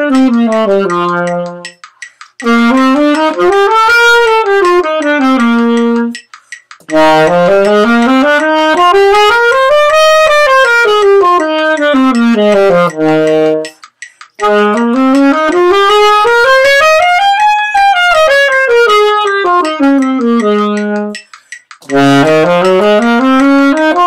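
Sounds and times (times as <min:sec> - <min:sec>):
saxophone playing scales: 0:00.0 - 0:06.2, 0:06.8 - 0:24.0.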